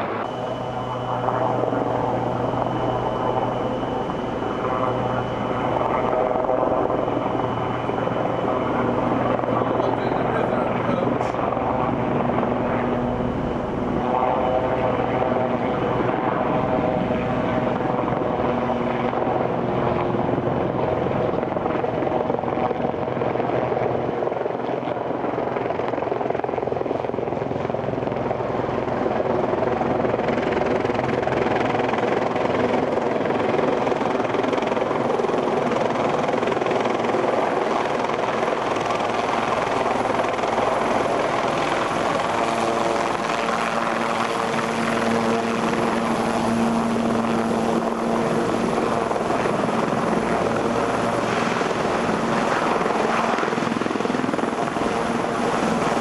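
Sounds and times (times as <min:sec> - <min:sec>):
helicopter rotor noise: 0:00.0 - 0:56.0.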